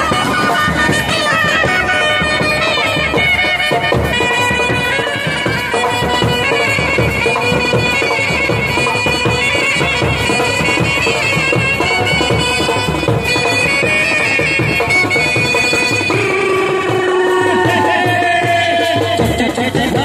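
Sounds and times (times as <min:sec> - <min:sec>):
brass band playing melody: 0:00.0 - 0:18.7.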